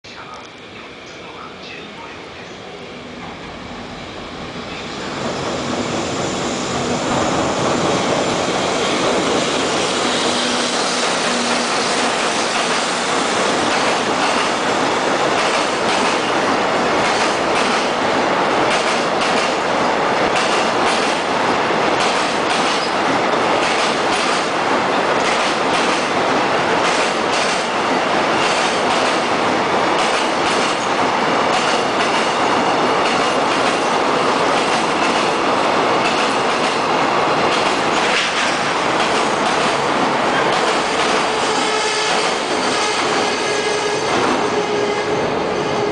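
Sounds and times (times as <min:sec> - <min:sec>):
freight train rolling past: 0:00.2 - 0:45.9.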